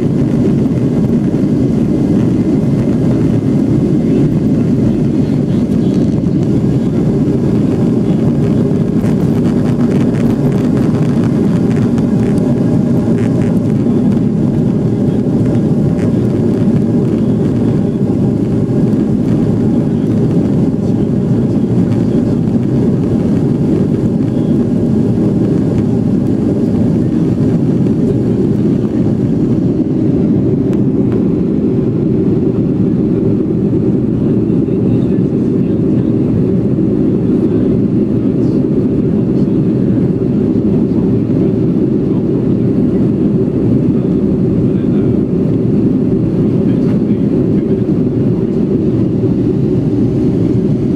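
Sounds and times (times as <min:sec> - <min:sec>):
jet engine rumble in cabin: 0:00.0 - 0:50.9.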